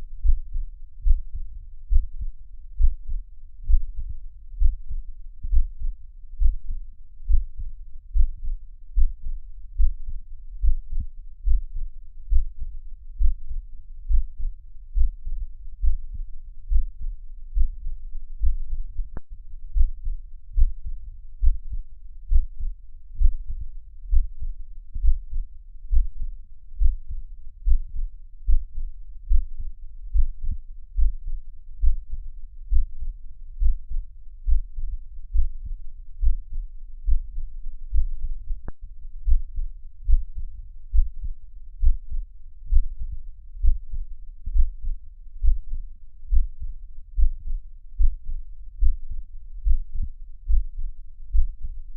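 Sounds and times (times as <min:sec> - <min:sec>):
heartbeat thumps: 0:00.2 - 0:51.8.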